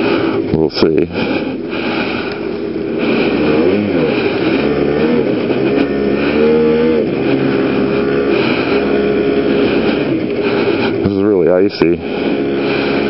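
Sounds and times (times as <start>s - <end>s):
two-stroke scooter engine revving: 0.0s - 13.0s.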